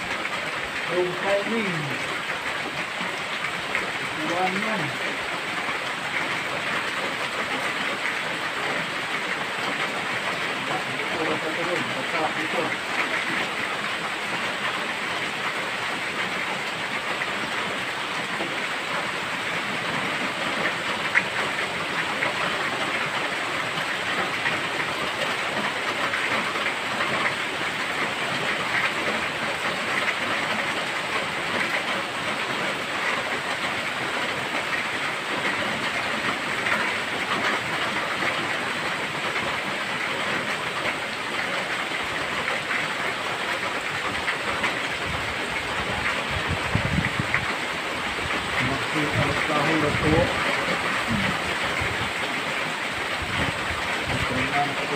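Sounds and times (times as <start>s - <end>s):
rain falling on foliage: 0.0s - 54.9s
ticks of raindrops: 0.0s - 54.9s.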